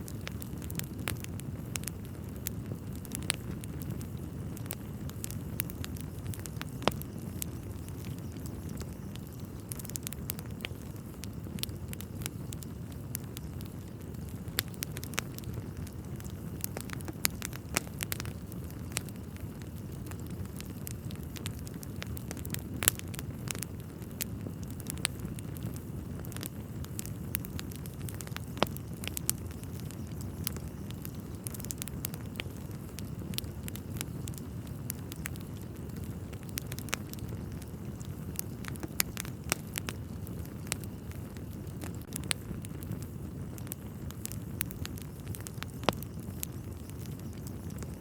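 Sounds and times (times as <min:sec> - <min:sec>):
fire rumbling: 0:00.0 - 0:48.0
wood crackling and popping: 0:00.0 - 0:48.0.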